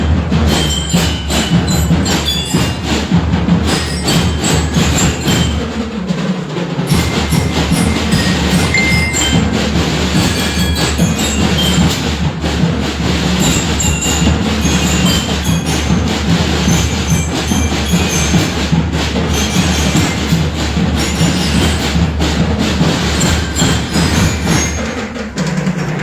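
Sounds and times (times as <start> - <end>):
drum and lyre band playing: 0.0 - 26.0.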